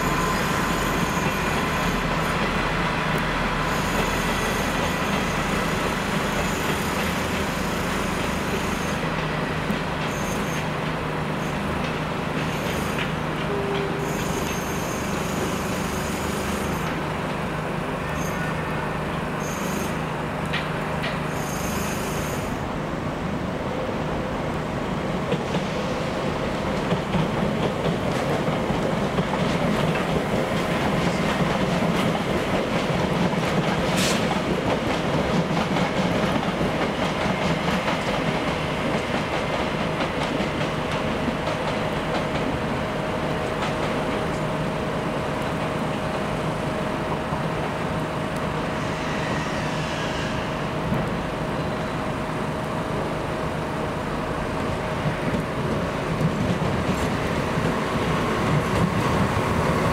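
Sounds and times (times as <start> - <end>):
train wheels clicking on rails: 0.0 - 22.6, 25.0 - 51.5, 52.3 - 59.9.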